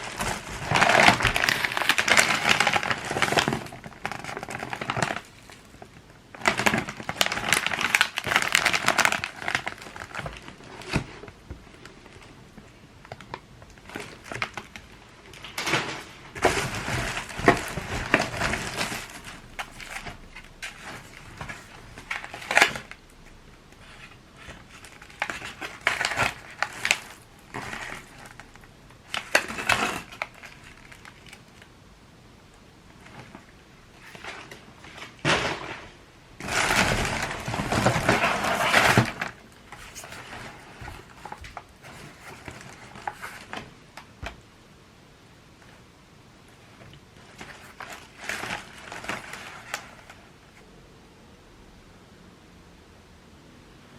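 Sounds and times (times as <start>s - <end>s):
rustling and crinkling: 0.0s - 44.6s, 45.3s - 50.7s.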